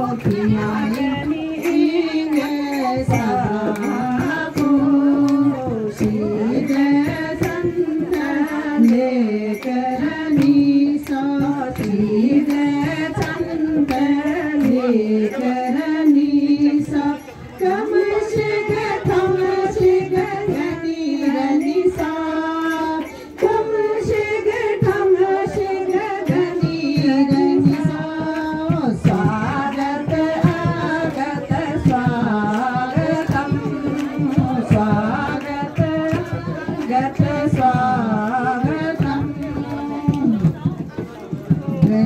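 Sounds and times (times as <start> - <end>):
hand-clapping: 0.0 - 17.8, 18.4 - 42.0
women singing in unison: 0.0 - 42.0.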